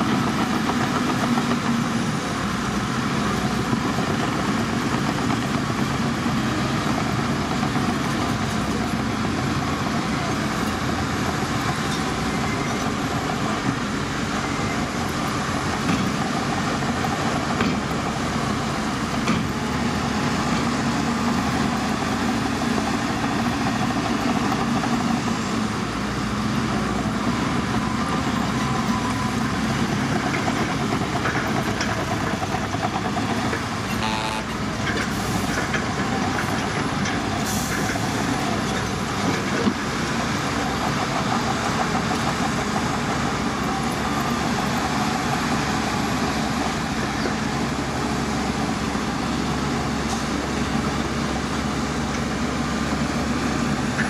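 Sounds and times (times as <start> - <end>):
heavy diesel machinery drone: 0.0 - 54.0.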